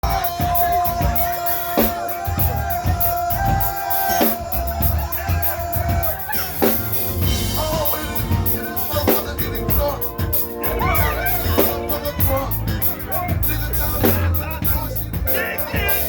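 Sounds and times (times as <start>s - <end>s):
band music: 0.0s - 16.0s.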